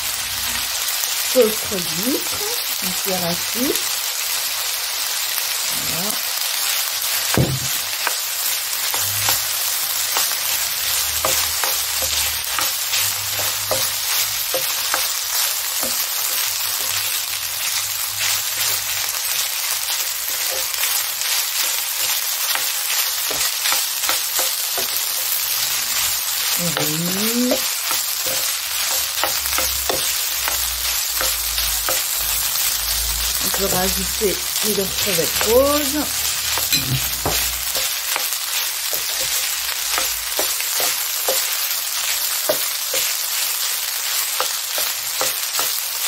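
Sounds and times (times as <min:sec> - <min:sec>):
rice sizzling in a frying pan: 0:00.0 - 0:46.0.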